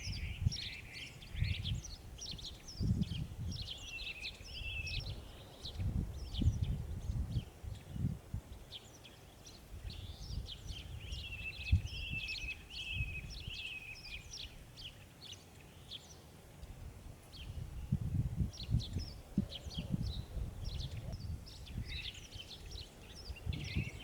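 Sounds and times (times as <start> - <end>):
songbirds chirping and singing: 0.0 - 16.7, 17.3 - 24.0.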